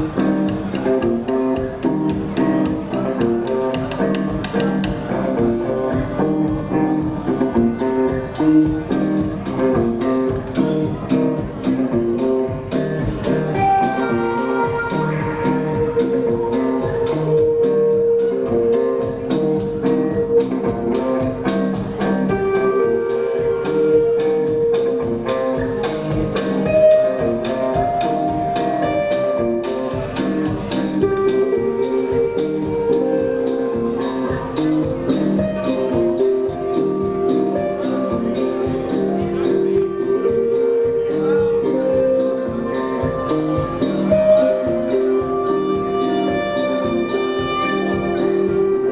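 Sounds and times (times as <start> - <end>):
drum kit beat: 0.0 - 48.9
electric guitars playing: 0.0 - 48.9.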